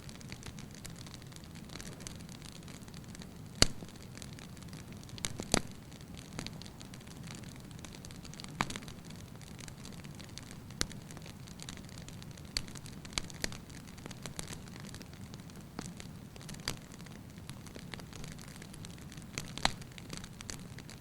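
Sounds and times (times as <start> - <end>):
fire rumbling: 0.0 - 21.0
firewood crackling and popping: 0.0 - 21.0.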